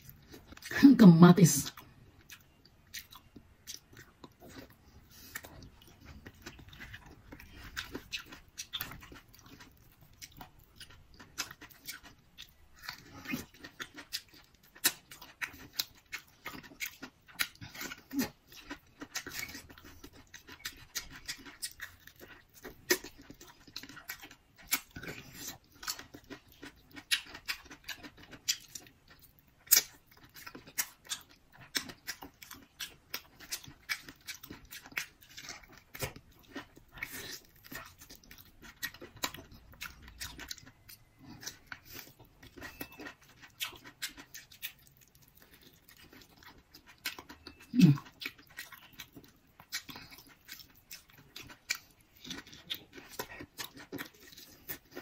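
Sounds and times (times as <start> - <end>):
chewing with wet mouth clicks: 0.0 - 0.7, 1.7 - 55.0.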